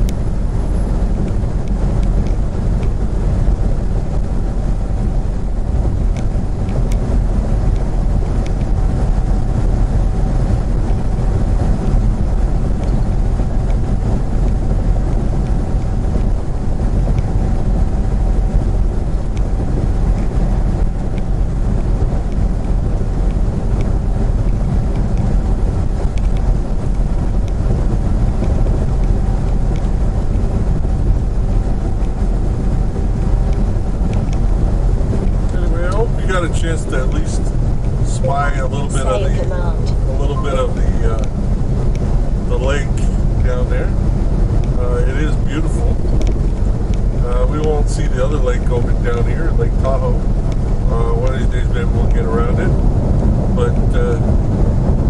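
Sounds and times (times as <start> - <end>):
faint steady hum: 0.0 - 55.0
vehicle road and engine rumble: 0.0 - 55.0.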